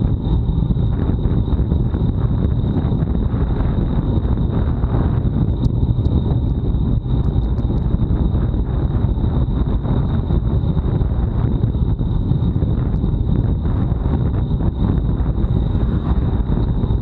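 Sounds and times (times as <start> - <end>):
thin high whine: 0.0 - 17.0
wind buffeting microphone: 0.0 - 17.0.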